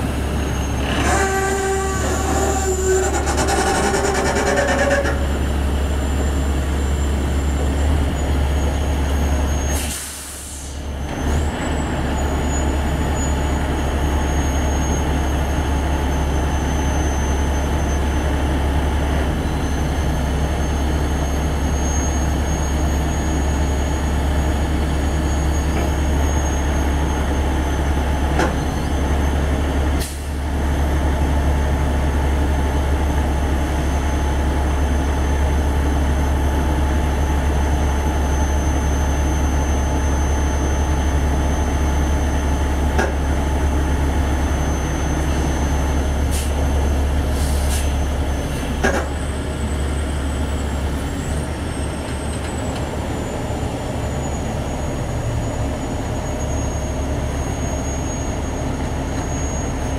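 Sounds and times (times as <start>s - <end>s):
diesel engine low rumble: 0.0s - 59.9s.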